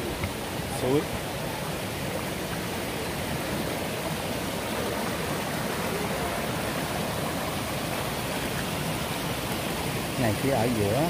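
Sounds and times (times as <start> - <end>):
water pouring over waterfall: 0.0 - 11.0.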